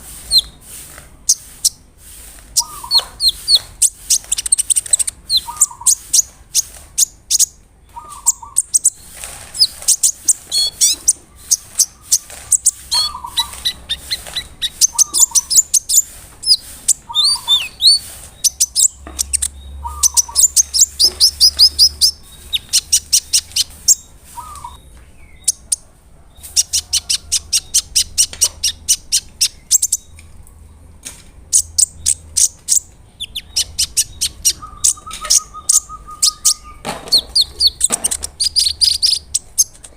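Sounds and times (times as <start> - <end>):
sunbird singing high trills: 0.1 - 1.8, 2.5 - 25.7, 31.5 - 39.7.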